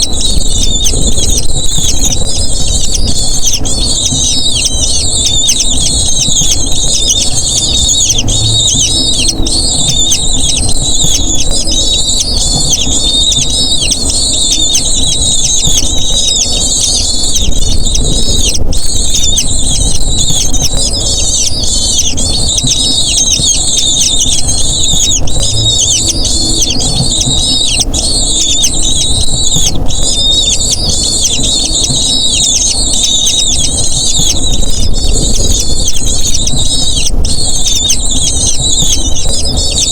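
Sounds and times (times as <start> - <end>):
eagle chicks begging calls: 0.0 - 39.9
low steady rumble: 0.0 - 39.9.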